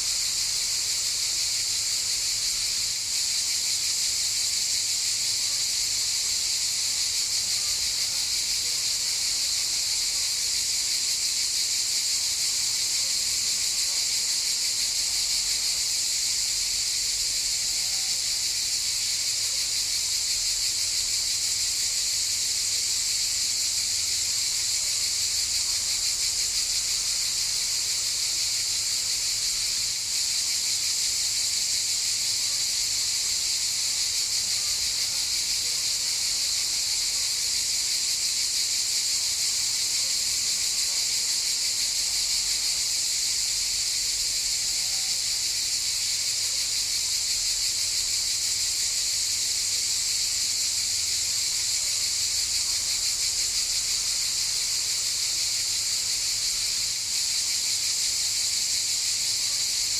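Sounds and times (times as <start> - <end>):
cicadas buzzing: 0.0 - 12.6, 13.2 - 59.9.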